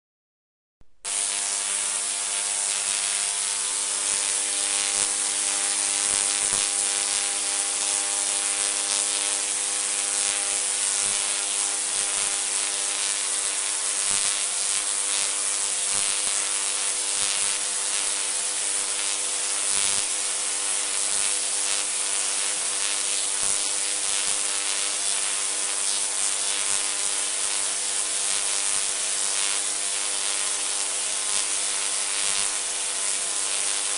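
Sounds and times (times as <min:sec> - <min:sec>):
harsh electric buzz: 0:01.0 - 0:33.9
tesla coil sparks crackling: 0:01.0 - 0:33.9.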